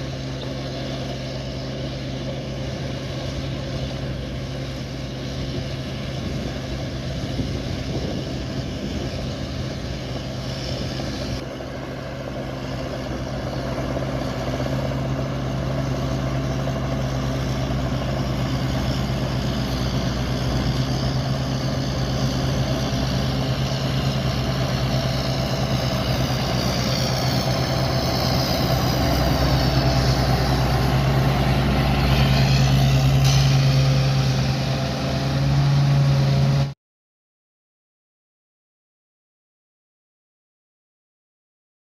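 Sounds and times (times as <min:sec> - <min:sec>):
combine harvester engine running: 0:00.0 - 0:36.8.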